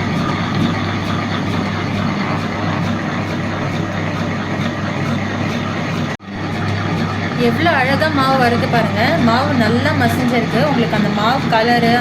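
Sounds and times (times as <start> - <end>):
stone grinding batter: 0.0 - 12.0.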